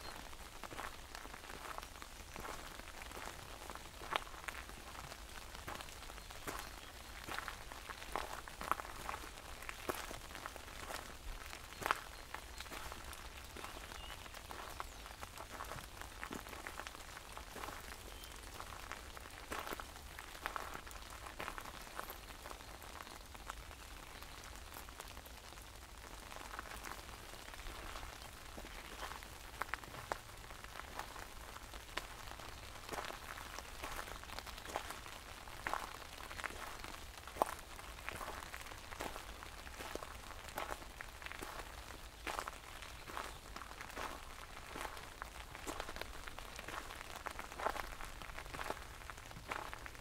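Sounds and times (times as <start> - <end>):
rain drops ticking on an umbrella: 0.0 - 50.0
steady hiss of rain: 0.0 - 50.0.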